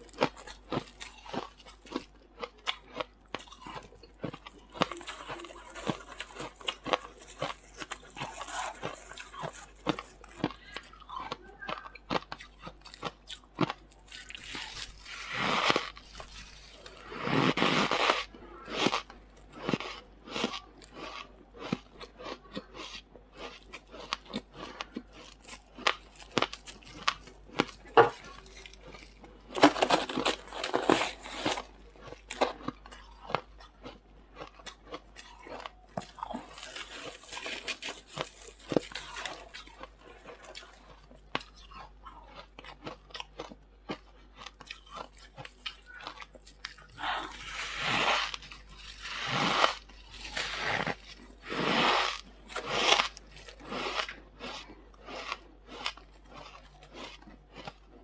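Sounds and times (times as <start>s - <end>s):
chewing crunchy frost: 0.0s - 58.0s.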